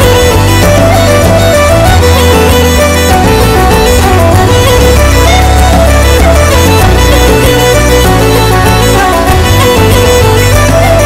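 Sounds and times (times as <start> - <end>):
folk instrumental melody over bass: 0.0 - 11.0.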